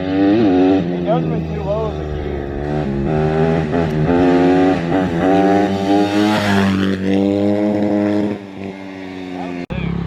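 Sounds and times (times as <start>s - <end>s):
off-road vehicle engine accelerating: 0.0s - 10.0s.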